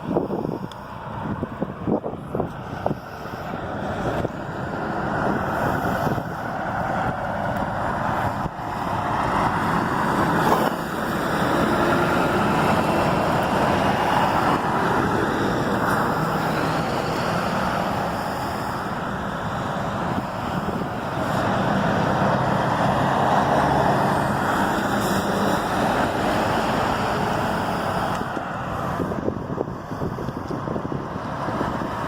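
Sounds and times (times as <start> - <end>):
motor vehicle noise: 0.0 - 32.0.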